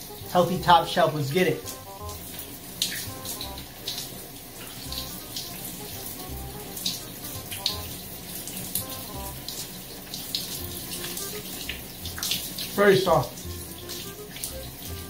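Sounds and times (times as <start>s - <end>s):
shower spray running: 0.0s - 15.0s.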